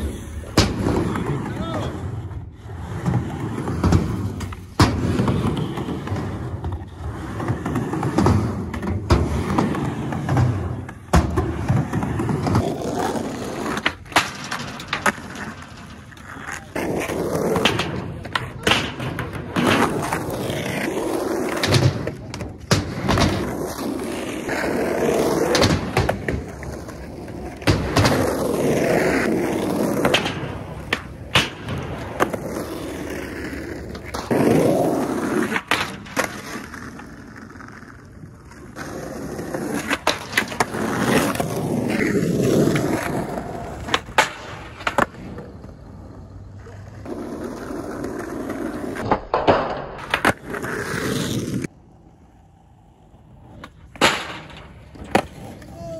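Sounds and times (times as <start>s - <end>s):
skateboard wheels rolling on asphalt: 0.0s - 55.9s
skateboards clacking on ground: 0.0s - 55.9s.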